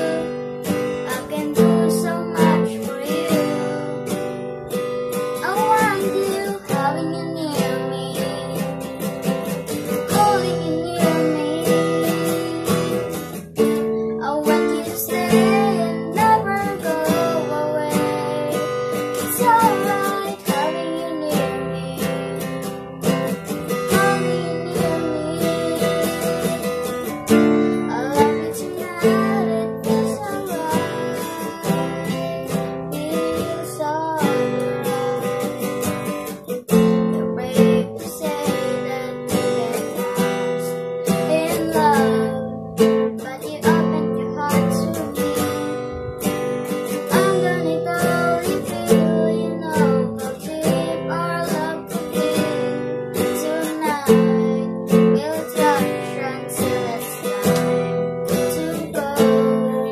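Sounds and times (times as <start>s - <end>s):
acoustic guitar strumming: 0.0s - 59.9s
boy singing: 0.0s - 59.9s.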